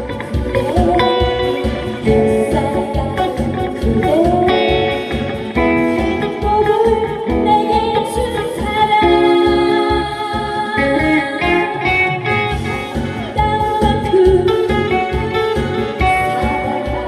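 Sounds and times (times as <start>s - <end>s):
guitar-led backing track: 0.0s - 17.0s
woman singing: 0.0s - 17.0s.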